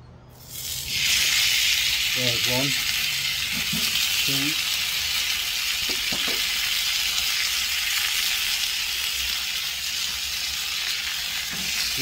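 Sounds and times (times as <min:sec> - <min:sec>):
meat sizzling in hot oil: 0:00.4 - 0:12.0.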